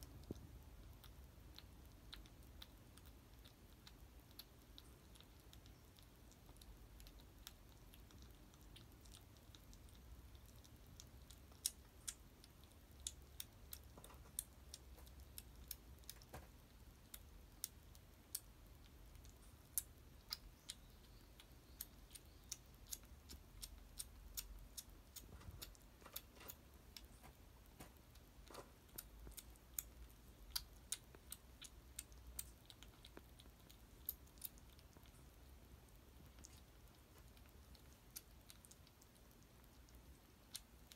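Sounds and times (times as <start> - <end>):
kittens chewing cat food: 0.0 - 40.9.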